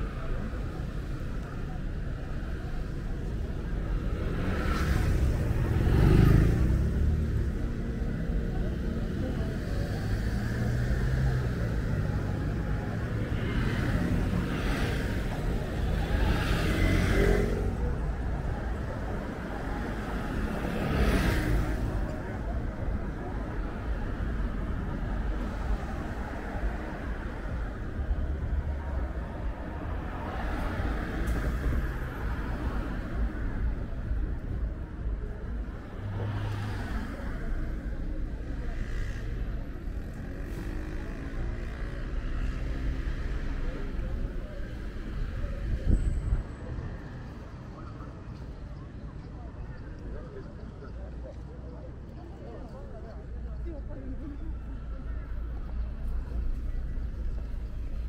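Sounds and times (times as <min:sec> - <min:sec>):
cars passing: 0:00.0 - 0:58.0
low traffic rumble: 0:00.0 - 0:58.0.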